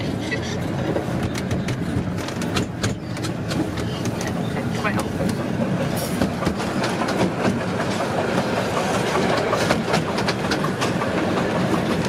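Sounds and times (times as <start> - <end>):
miniature train rumbling: 0.0 - 12.0
wheels clicking over rail joints: 0.1 - 12.0.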